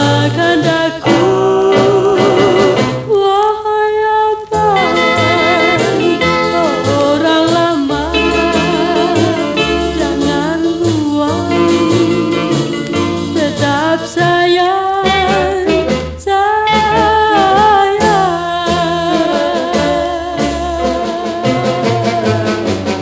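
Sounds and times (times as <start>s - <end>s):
swing-style band: 0.0s - 3.5s, 4.4s - 23.0s
woman singing with vibrato: 0.0s - 23.0s.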